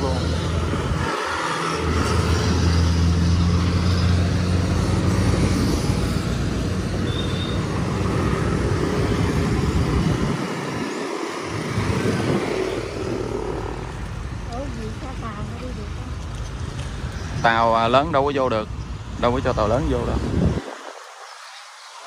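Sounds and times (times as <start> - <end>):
low engine hum: 0.0 - 20.6
vehicle engines: 0.0 - 22.0.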